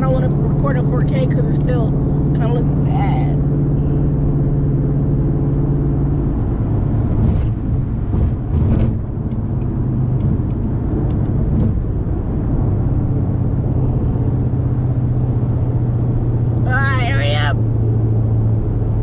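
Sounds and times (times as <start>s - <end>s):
car engine hum: 0.0s - 19.0s
road noise: 0.0s - 19.0s.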